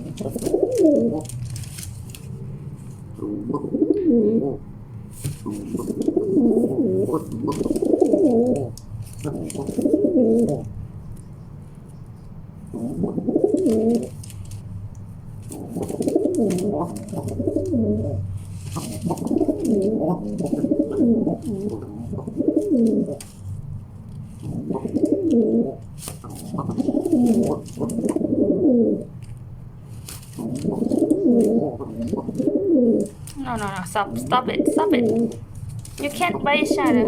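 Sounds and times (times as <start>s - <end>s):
pigeons cooing: 0.0s - 10.8s, 12.6s - 14.2s, 15.4s - 23.6s, 24.3s - 29.2s, 30.4s - 37.0s.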